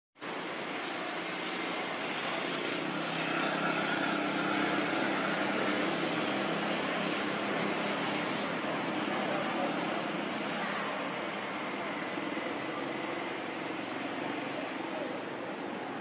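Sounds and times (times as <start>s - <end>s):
engine drone: 0.2s - 16.0s.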